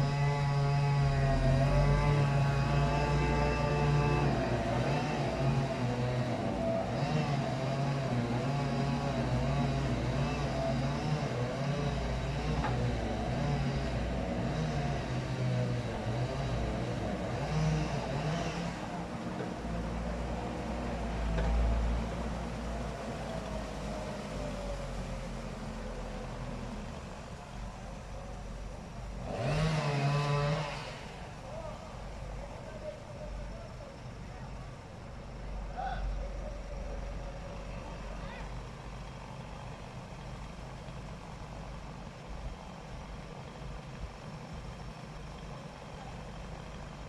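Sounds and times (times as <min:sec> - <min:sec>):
heavy vehicle engine running: 0:00.0 - 0:47.0.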